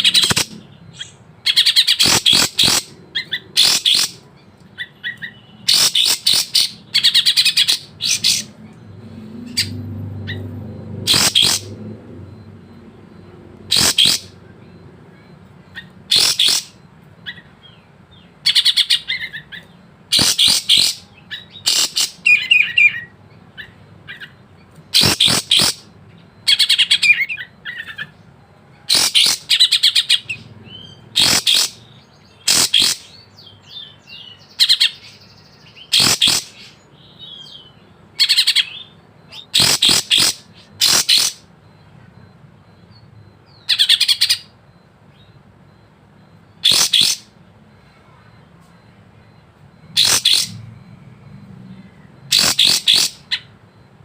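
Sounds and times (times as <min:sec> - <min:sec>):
bird singing sharp phrases: 0:00.0 - 0:12.3, 0:13.7 - 0:47.4, 0:48.3 - 0:53.8.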